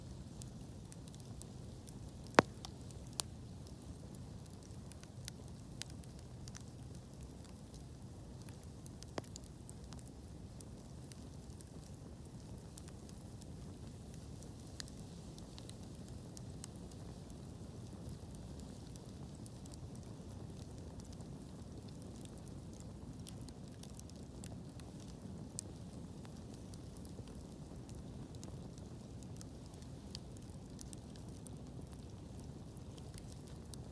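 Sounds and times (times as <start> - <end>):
fire crackles and pops: 0.0 - 33.9
wood fire rumbling: 0.1 - 33.9.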